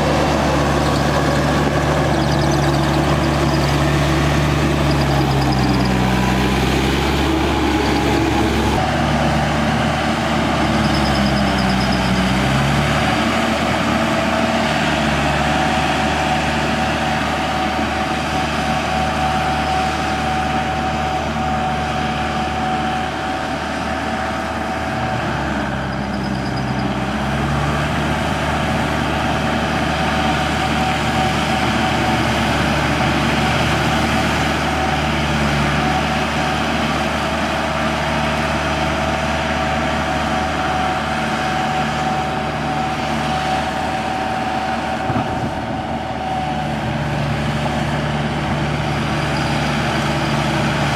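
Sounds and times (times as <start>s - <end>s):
tractor diesel engine under load: 0.0s - 50.9s.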